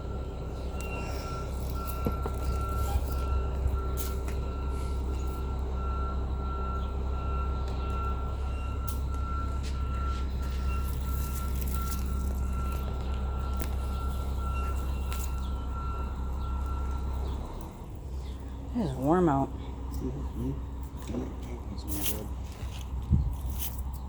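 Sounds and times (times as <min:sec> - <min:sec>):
reversing alarm beeping: 0:00.0 - 0:22.8
low engine rumble: 0:00.0 - 0:24.0.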